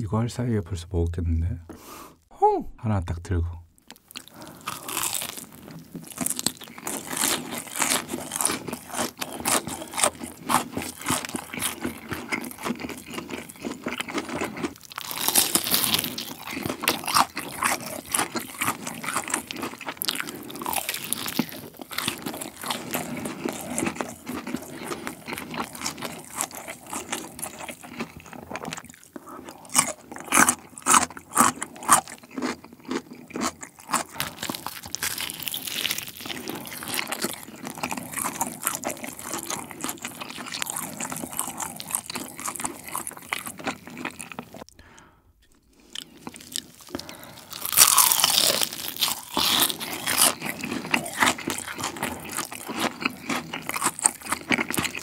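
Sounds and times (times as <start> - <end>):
crunching and chewing fried chicken: 3.8 - 55.0.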